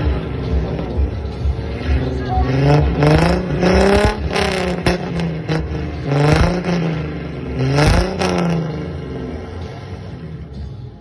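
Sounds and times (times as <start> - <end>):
exhaust cracks: 0.0 - 9.9
car engine revving: 0.0 - 11.0.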